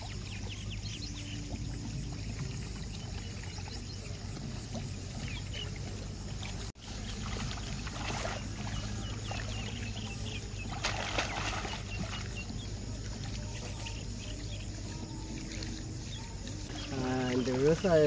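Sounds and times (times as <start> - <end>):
muddy water splashing: 0.0 - 18.0
small birds chirping: 0.0 - 18.0.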